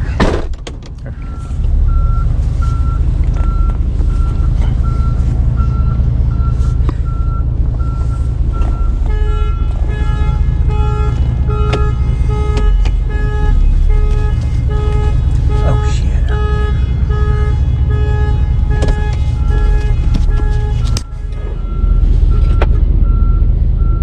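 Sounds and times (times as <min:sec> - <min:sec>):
truck engine rumble: 0:00.0 - 0:24.0
backup alarm beeping: 0:01.2 - 0:24.0.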